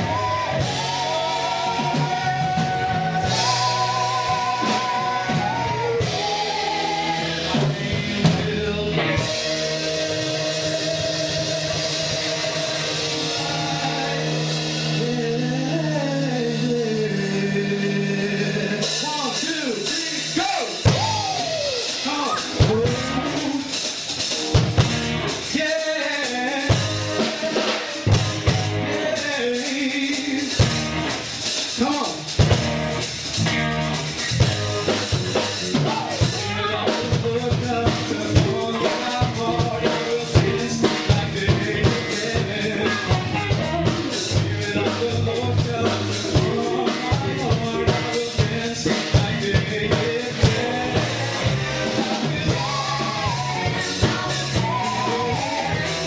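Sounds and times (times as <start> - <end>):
man singing vocal runs: 0.0 - 24.0, 25.4 - 28.2, 28.8 - 30.8, 34.5 - 56.0
drums steady beat: 0.0 - 56.0
gospel band playing: 0.0 - 56.0.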